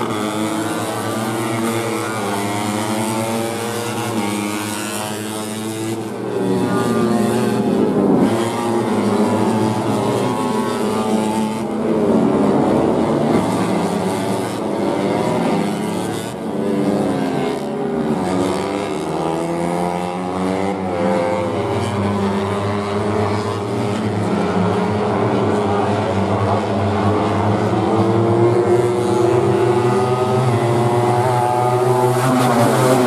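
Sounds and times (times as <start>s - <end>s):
motorcycles revving high: 0.0s - 33.0s.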